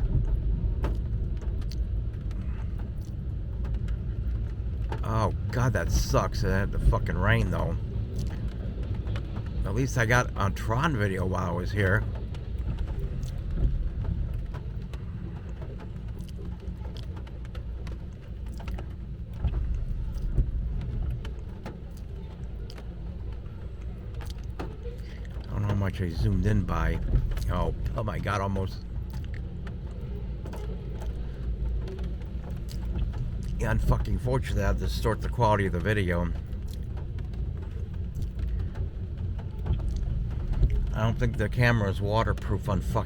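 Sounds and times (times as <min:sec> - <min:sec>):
freight train rumble: 0:00.0 - 0:43.0
rain tapping on car body: 0:00.0 - 0:43.0.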